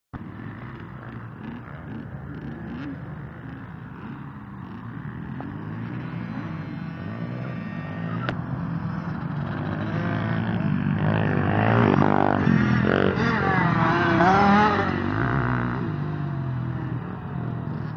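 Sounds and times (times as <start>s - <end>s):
dirt bike engine revving: 0.2s - 17.9s.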